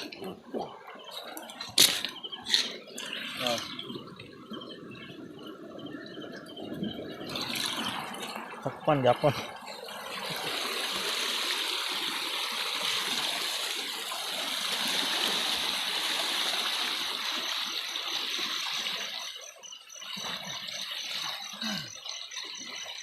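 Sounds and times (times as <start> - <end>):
river water rushing and splashing: 0.0 - 23.0.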